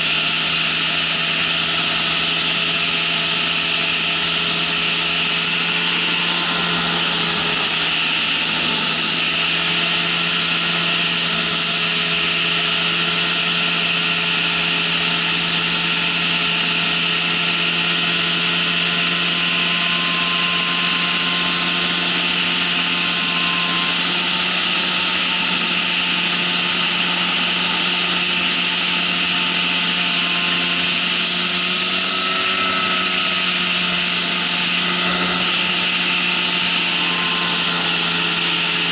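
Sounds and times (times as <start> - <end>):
ultralight engine drone: 0.0 - 38.9.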